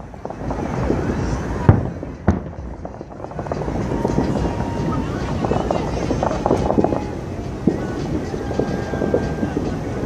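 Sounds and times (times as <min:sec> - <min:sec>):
din of smaller firework pops: 0:00.0 - 0:09.7
fireworks sharp bangs: 0:00.0 - 0:10.0.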